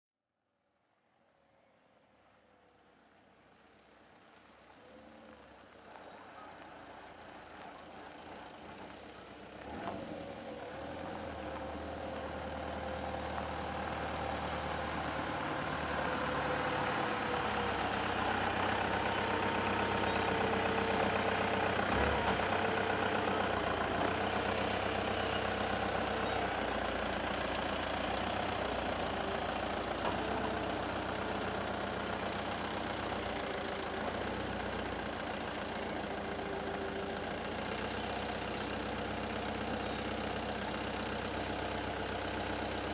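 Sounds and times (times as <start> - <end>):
dump truck engine: 4.8 - 42.9.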